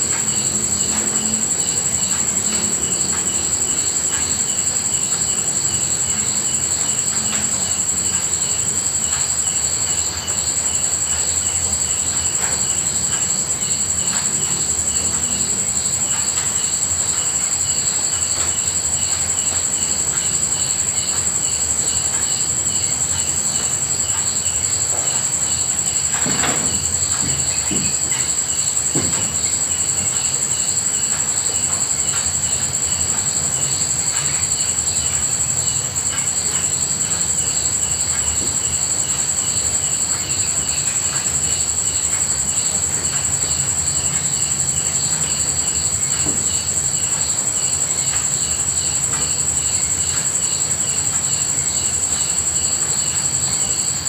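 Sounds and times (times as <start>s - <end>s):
insects trilling: 0.0s - 54.0s
rhythmic insect chirp: 0.0s - 54.0s.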